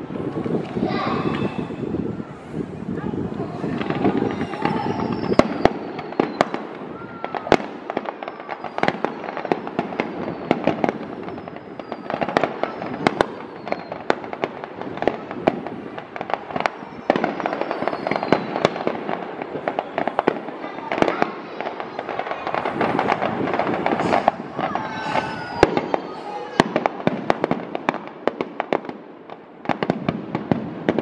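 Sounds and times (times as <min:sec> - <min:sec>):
fireworks bangs and crackling: 0:00.0 - 0:31.0
falling firework whistles: 0:00.4 - 0:02.9, 0:03.6 - 0:14.5, 0:15.1 - 0:27.8.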